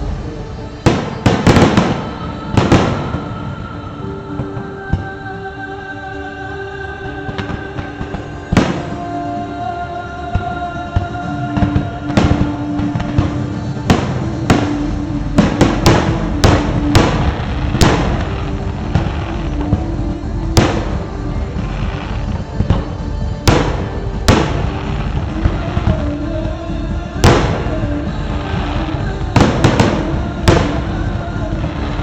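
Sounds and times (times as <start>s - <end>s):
fireworks bursting bangs: 0.0s - 5.1s, 7.3s - 9.2s, 10.4s - 32.0s
fireworks crackling: 0.0s - 5.2s, 10.4s - 32.0s
music with sustained notes: 0.0s - 32.0s.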